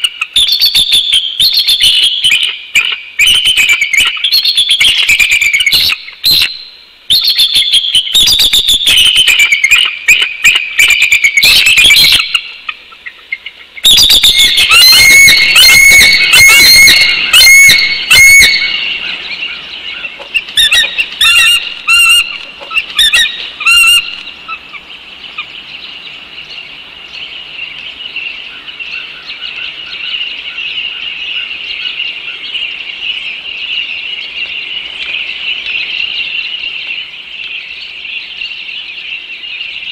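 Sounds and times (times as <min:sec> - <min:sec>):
background birds chorus: 0:00.0 - 0:39.9
eagles chattering calls: 0:00.0 - 0:39.9.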